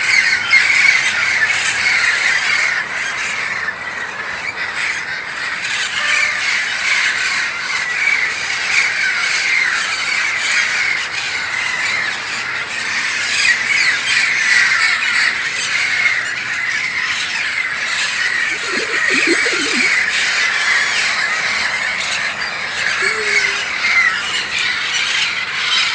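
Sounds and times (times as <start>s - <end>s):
parakeets squawking and chattering: 0.1s - 25.9s.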